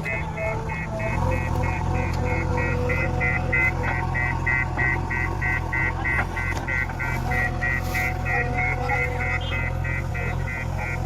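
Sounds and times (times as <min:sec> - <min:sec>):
diesel engine running: 0:00.0 - 0:11.0
rapid high electronic beeping: 0:00.0 - 0:11.0.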